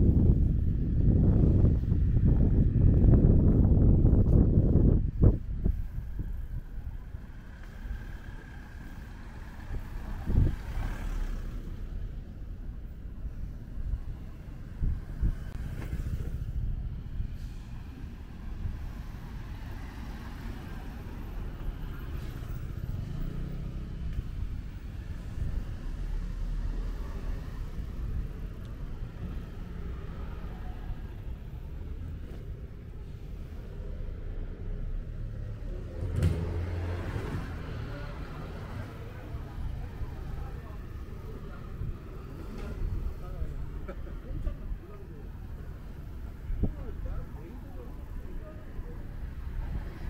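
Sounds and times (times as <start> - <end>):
traffic rumble: 0.0 - 50.0.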